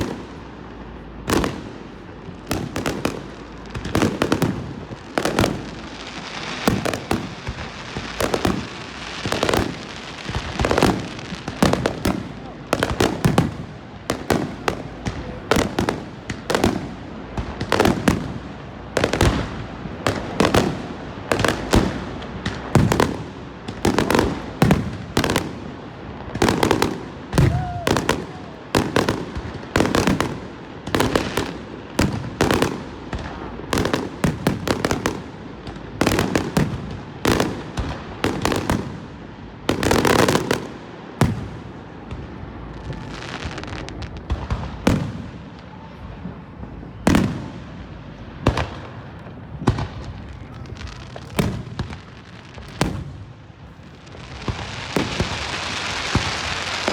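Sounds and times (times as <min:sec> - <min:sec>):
fireworks booming bangs: 0:00.0 - 0:56.9.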